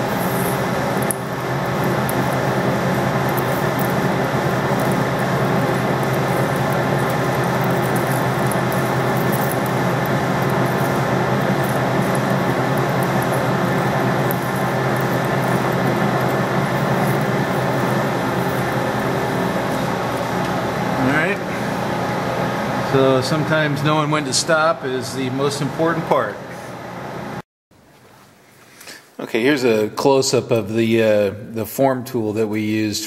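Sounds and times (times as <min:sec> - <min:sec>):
lathe drive hum: 0:00.0 - 0:27.4.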